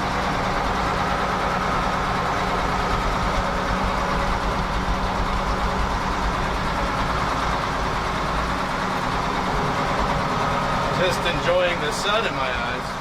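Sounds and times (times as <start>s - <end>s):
farm vehicle engine droning: 0.0s - 13.0s.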